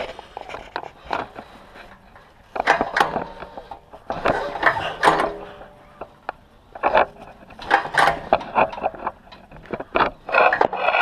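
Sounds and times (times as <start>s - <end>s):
recoil starter being pulled: 0.0s - 6.1s, 6.8s - 11.0s.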